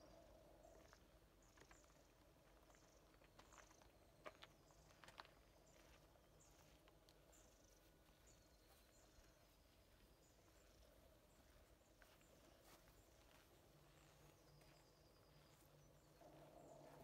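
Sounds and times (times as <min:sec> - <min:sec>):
distant birds chirping: 0:00.0 - 0:17.0.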